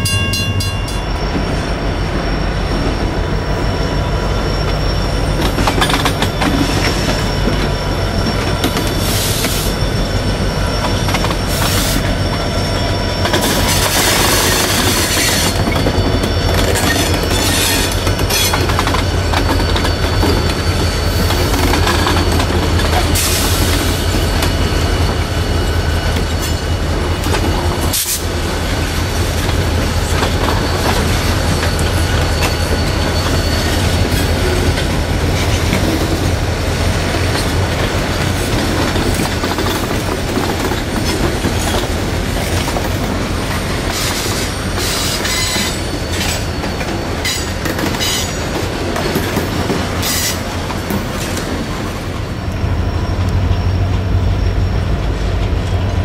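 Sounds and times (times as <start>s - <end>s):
high-pitched wheel squeal: 0.0s - 55.9s
diesel locomotive engines rumbling: 0.0s - 56.0s.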